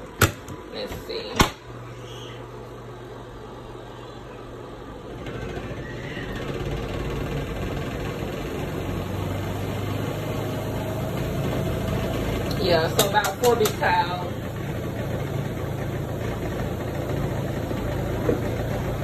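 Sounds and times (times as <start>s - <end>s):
spin dryer motor hum: 0.0s - 19.0s.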